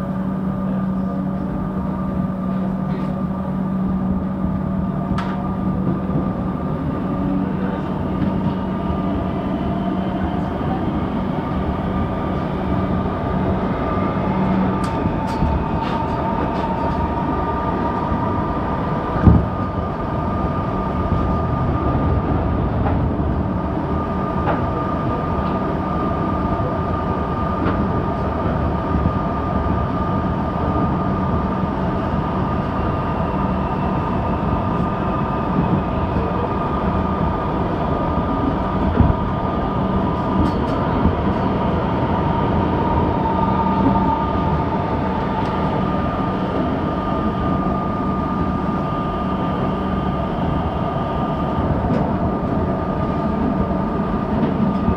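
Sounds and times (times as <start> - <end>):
train motor whine: 0.0 - 54.9
train wheels rumbling: 0.0 - 54.9.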